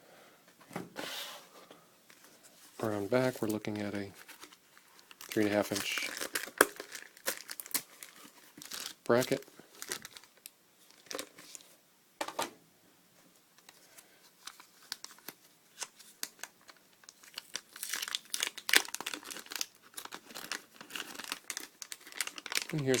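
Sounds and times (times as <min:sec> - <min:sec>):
packaging rustling and crinkling: 0:02.1 - 0:11.7, 0:13.6 - 0:23.0.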